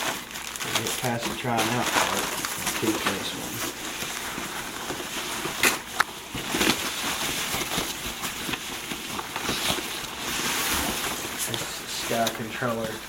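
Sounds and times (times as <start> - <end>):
handling of parts and packaging: 0.0 - 13.0.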